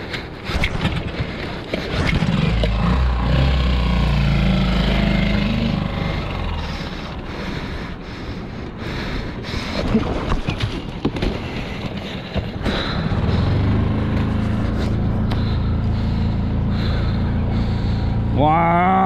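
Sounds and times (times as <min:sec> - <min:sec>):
outboard motor droning: 0:00.0 - 0:09.5, 0:11.4 - 0:19.0.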